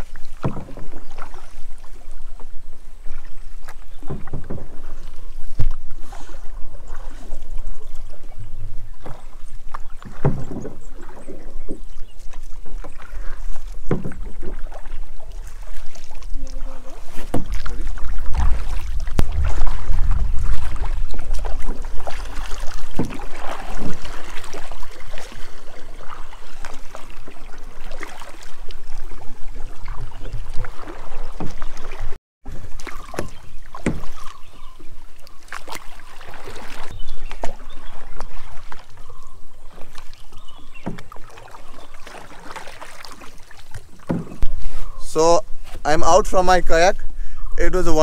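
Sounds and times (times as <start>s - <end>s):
knocks and clicks against boat: 0.0s - 1.6s, 3.6s - 6.0s, 7.0s - 45.9s
paddle splashes: 0.0s - 48.0s
water sloshing: 0.0s - 48.0s.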